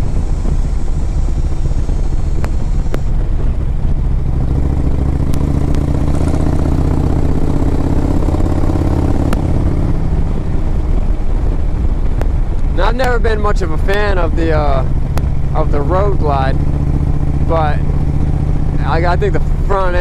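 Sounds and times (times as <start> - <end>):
motorcycle engine through loud exhaust: 0.0 - 20.0.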